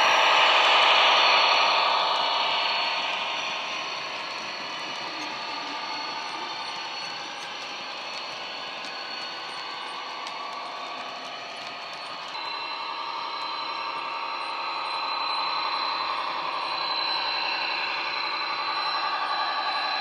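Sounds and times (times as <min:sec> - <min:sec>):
diesel locomotive engine from speaker: 0:00.0 - 0:20.0
thin steady high tone: 0:00.0 - 0:20.0.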